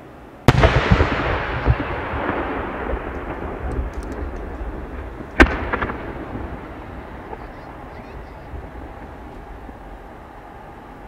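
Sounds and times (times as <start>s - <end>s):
fireworks shell booming: 0.5s - 9.5s
rumbling echo: 0.5s - 11.0s.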